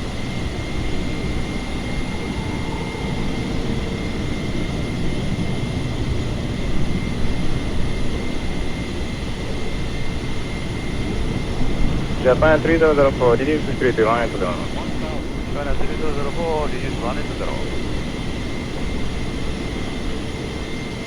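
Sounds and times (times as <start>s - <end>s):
faint high whine: 0.0s - 6.8s, 9.8s - 20.7s
jet airliner hum: 0.0s - 21.0s.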